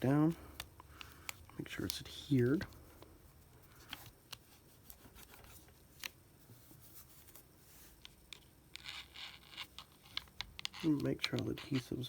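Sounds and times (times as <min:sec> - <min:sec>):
faint clicks of hands handling parts: 0:00.0 - 0:08.9, 0:09.5 - 0:12.0.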